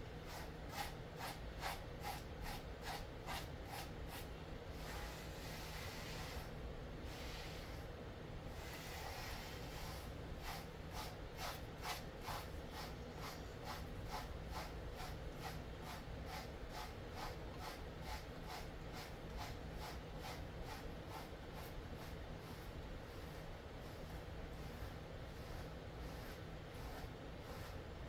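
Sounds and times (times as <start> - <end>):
brush rasping through dog fur: 0.1 - 7.9, 8.5 - 28.0.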